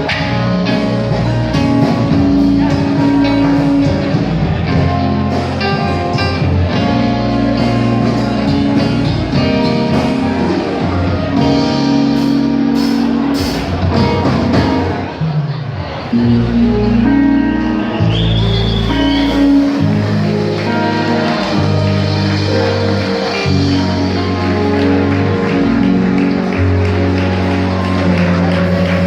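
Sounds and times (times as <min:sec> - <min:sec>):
electric guitar: 0:00.0 - 0:29.0
live rock band playing: 0:00.0 - 0:29.0.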